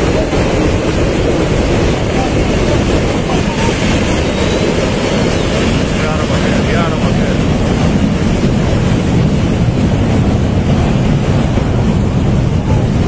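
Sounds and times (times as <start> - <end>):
torrent of water and boulders rushing: 0.0 - 13.0.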